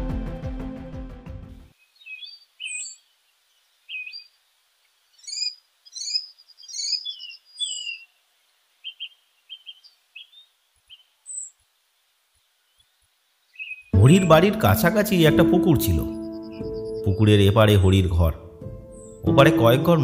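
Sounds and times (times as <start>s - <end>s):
birds chirping: 1.7s - 20.0s.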